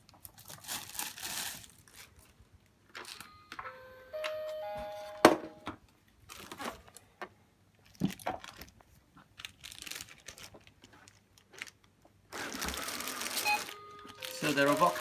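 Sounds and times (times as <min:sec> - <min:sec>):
rustling and crinkling handling noises: 0:00.0 - 0:03.4, 0:05.8 - 0:15.0.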